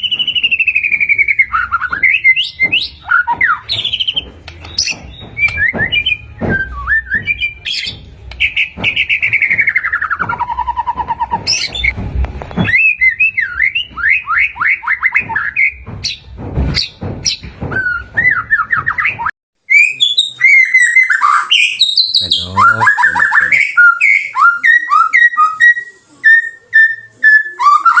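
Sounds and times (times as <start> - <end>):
bird singing whistles and trills: 0.0 - 11.9, 12.6 - 16.2, 16.8 - 28.0.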